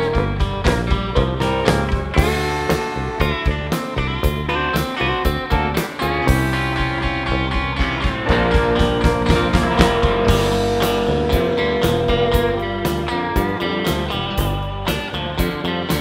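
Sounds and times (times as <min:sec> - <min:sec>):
held guitar lead note: 0:00.0 - 0:16.0
live rock band playing: 0:00.0 - 0:16.0.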